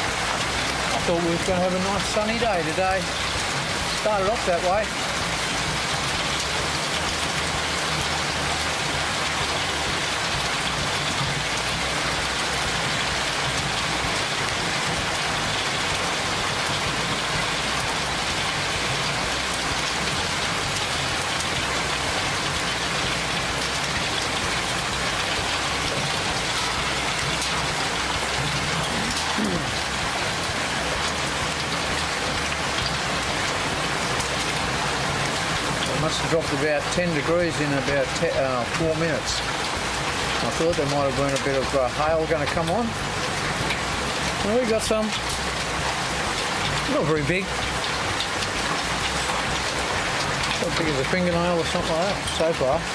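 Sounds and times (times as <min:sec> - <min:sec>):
heavy rain with small hail: 0:00.0 - 0:52.9.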